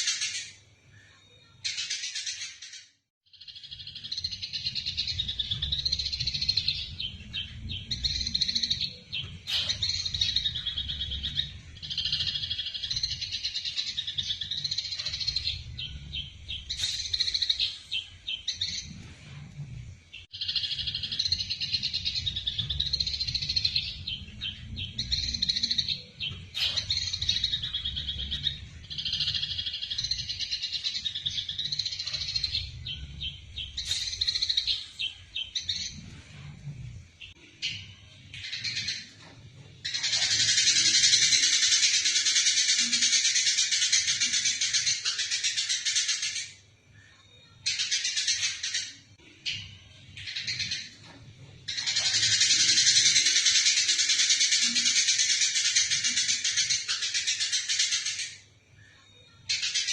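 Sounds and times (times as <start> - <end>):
sparrows chattering: 0.0 - 46.6, 47.6 - 58.5, 59.5 - 59.9.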